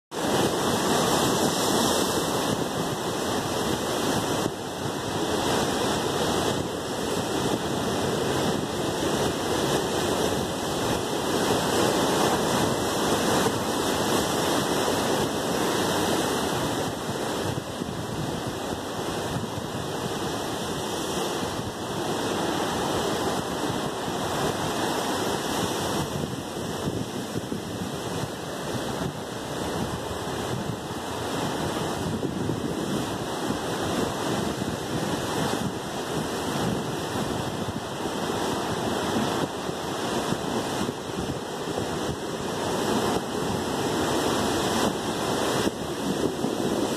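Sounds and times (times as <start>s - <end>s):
surf breaking over rocks: 0.1s - 46.9s.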